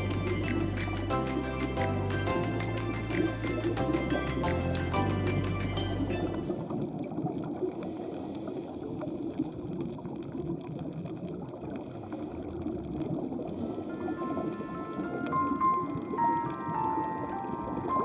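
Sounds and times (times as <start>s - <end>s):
muffled underwater rush and bubbling: 2.4s - 18.0s.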